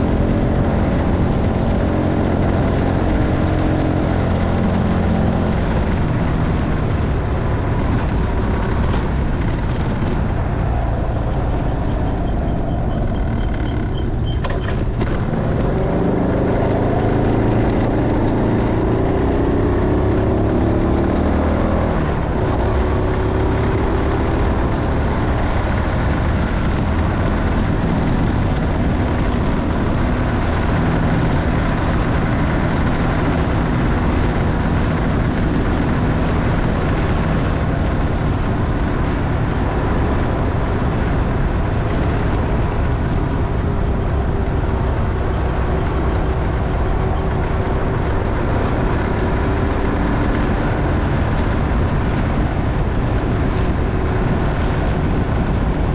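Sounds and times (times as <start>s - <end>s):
motorcycle engine running: 0.0s - 55.9s
road and wind noise: 0.0s - 55.9s.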